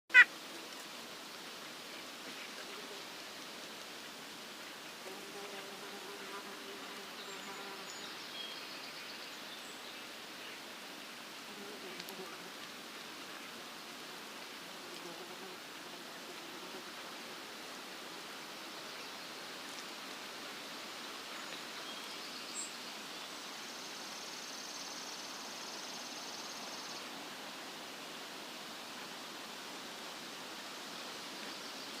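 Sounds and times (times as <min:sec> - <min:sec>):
outdoor background hiss: 0:00.1 - 0:32.0.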